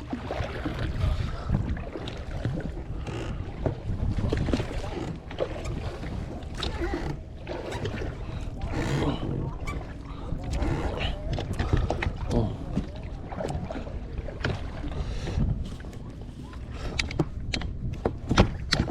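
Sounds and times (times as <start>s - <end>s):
water sloshing against hull: 0.0s - 18.9s
wind buffeting microphone: 0.0s - 18.9s.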